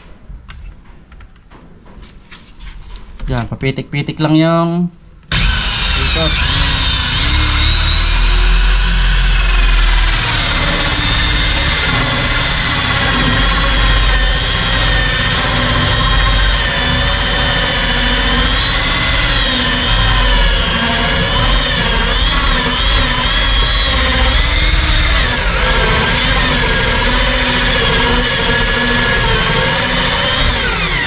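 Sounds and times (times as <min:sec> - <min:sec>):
electric drill hole saw cutting wood: 0:05.3 - 0:31.0.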